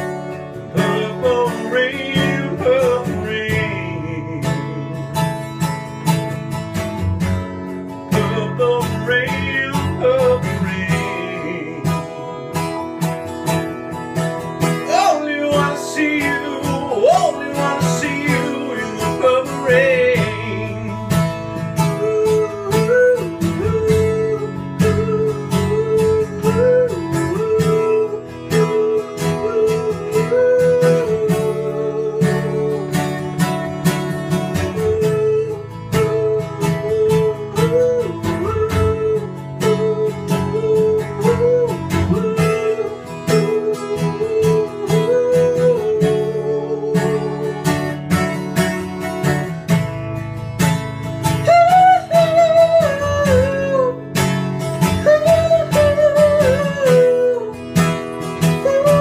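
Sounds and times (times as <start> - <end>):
man singing wordless melody: 0.0 - 5.7, 7.9 - 12.8, 14.6 - 49.6, 51.2 - 59.0
acoustic guitar strumming: 0.0 - 59.0.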